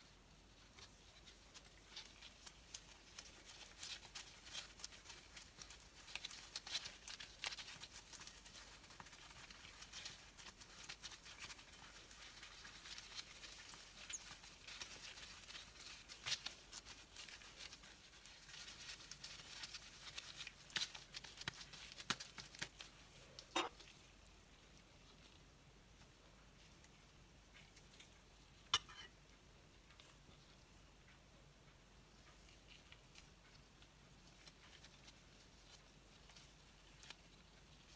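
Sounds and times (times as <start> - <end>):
plastic gloves crackling on dough: 0.0 - 31.1, 32.1 - 37.9.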